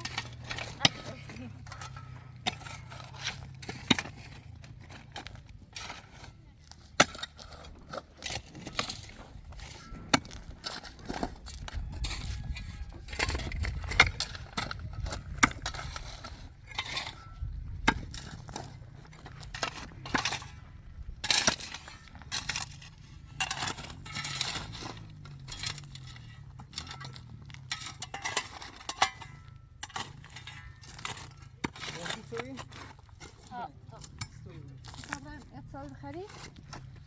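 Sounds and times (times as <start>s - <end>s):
shovel scraping soil and gravel: 0.0s - 37.0s.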